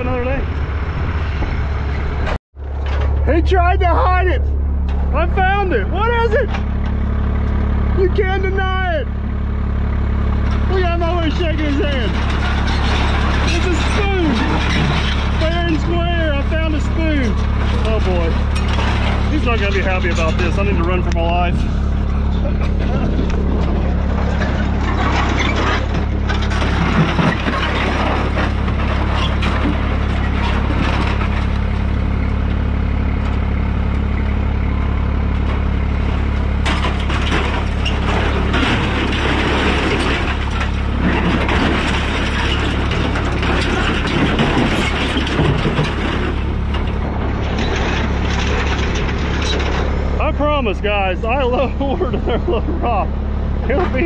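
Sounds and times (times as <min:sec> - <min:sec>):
excavator engine humming: 0:00.0 - 0:54.0
scrap metal crashing and clanking: 0:02.6 - 0:08.3, 0:10.4 - 0:32.4, 0:35.4 - 0:54.0.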